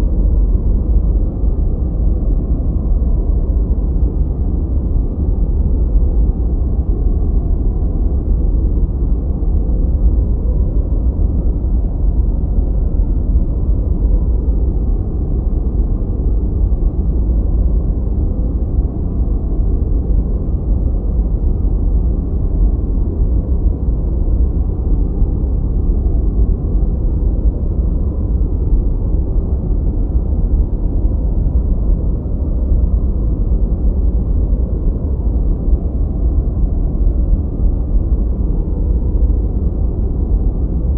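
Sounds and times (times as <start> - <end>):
deep rumbling generated noise: 0.0 - 40.9.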